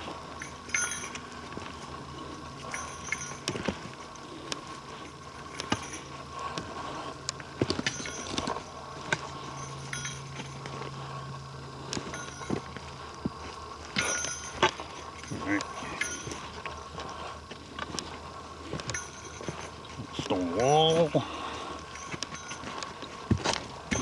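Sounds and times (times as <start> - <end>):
light metallic jingle: 0.0 - 24.0.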